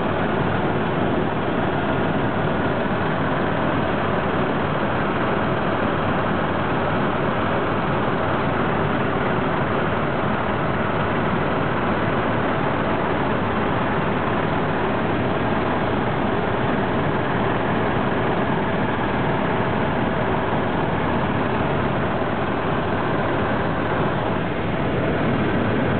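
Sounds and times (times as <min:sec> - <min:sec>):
helicopter engine and rotor noise: 0:00.0 - 0:25.9.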